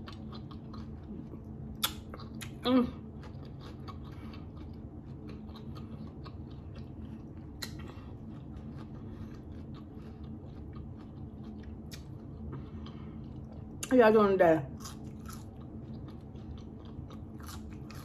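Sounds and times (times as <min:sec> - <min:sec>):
person chewing: 0:00.0 - 0:13.9, 0:14.8 - 0:18.0.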